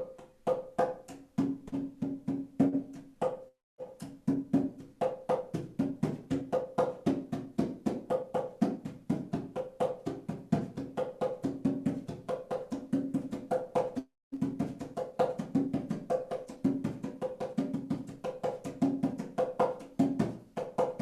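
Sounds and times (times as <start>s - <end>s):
hand drum fast beat: 0.0s - 21.0s.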